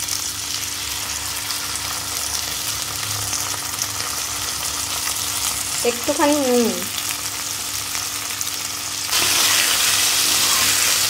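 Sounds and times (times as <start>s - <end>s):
dumplings sizzling in oil: 0.0s - 11.0s.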